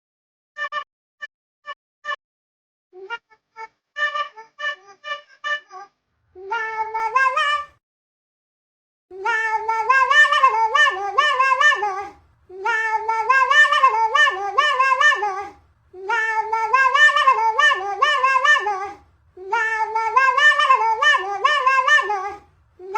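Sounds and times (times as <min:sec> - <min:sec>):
cat meows song: 0:03.0 - 0:07.8, 0:09.2 - 0:22.9.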